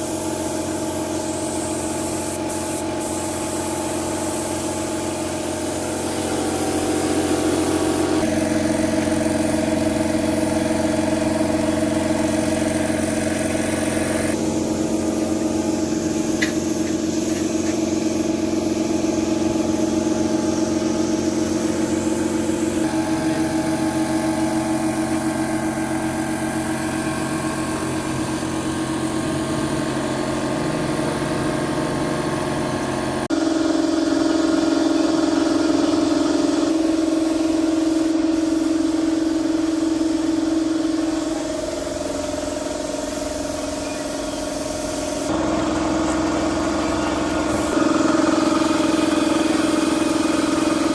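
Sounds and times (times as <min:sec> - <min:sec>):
steady machine hum: 0:00.0 - 0:50.9.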